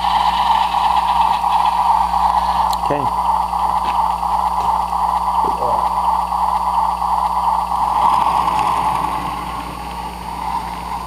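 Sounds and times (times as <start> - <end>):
low electrical hum: 0.0 - 11.0
model train drone: 0.0 - 11.0.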